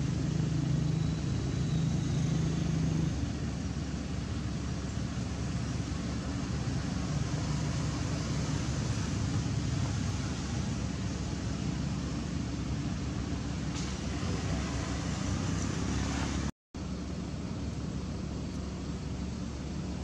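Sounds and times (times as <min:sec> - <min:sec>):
low outdoor rumble with hiss: 0:00.0 - 0:20.0.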